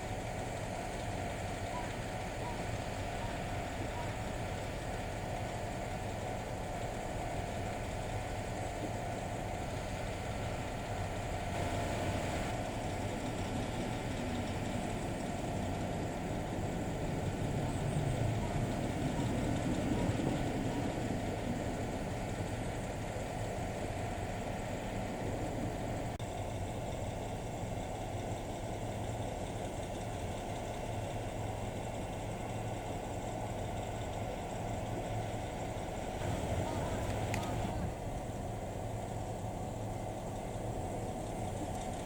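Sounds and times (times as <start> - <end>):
engine idling: 0.0 - 42.0.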